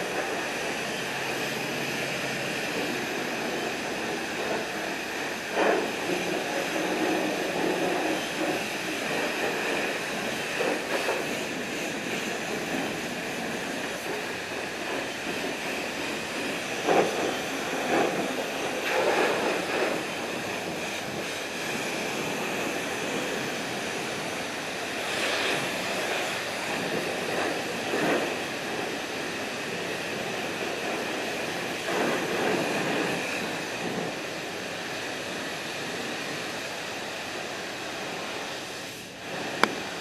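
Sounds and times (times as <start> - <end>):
high-pressure water spray: 0.0 - 40.0.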